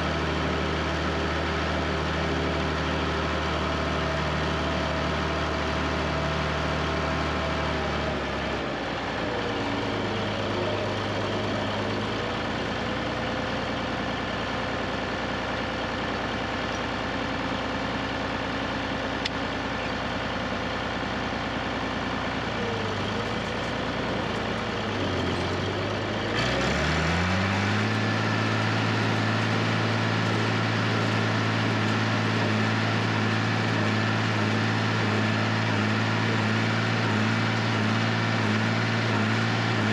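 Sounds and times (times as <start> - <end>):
tractor engine running and revving: 0.0 - 39.9.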